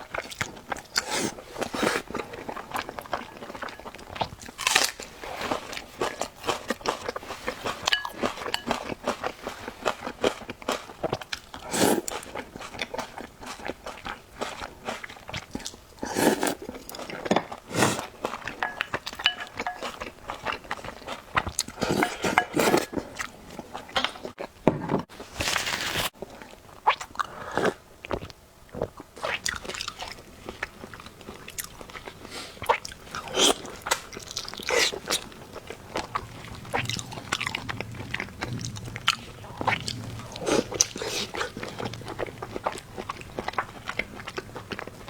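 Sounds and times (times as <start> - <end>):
person chewing crunchy food: 0.0 - 24.6, 25.4 - 45.0.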